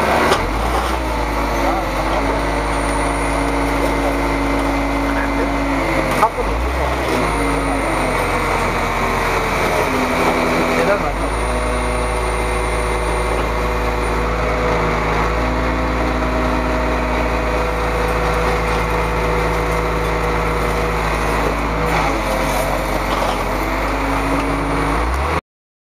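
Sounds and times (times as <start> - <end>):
truck engine running: 0.0 - 25.4.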